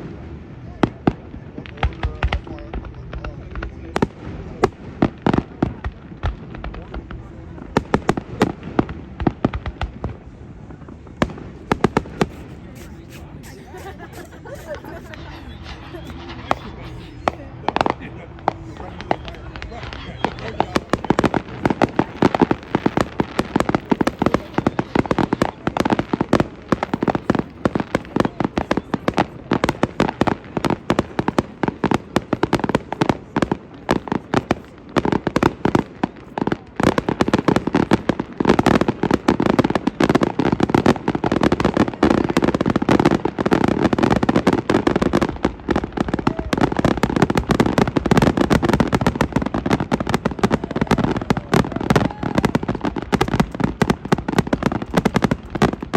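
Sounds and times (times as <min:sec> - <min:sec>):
fireworks bangs and pops: 0:00.8 - 0:55.9.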